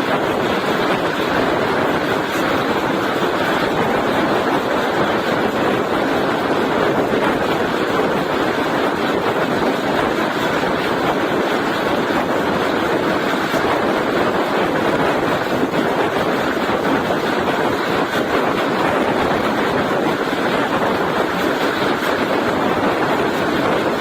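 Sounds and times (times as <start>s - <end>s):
train rushing on track: 0.0s - 24.0s.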